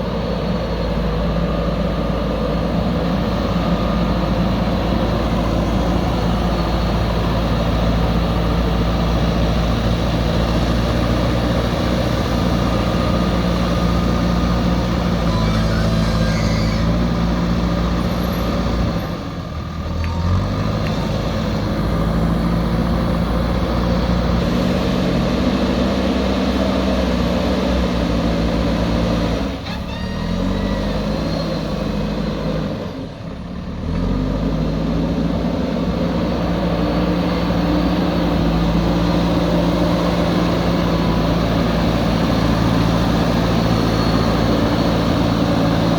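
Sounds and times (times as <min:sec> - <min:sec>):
heavy machinery diesel engine: 0:00.0 - 0:45.9.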